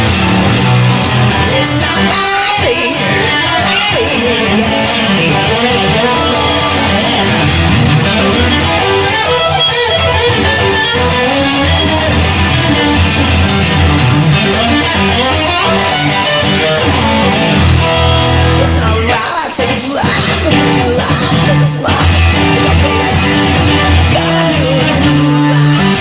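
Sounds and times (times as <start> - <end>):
steady bass line: 0.0 - 2.1, 2.8 - 19.0, 20.1 - 26.0
guitar playing: 0.0 - 26.0.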